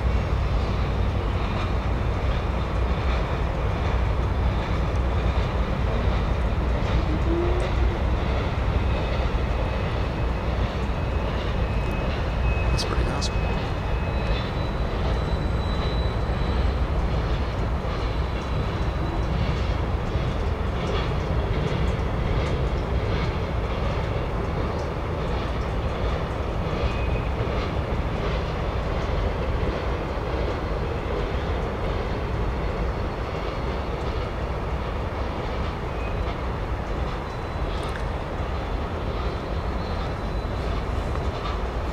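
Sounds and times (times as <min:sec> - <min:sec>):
freight train rumbling: 0:00.0 - 0:41.9.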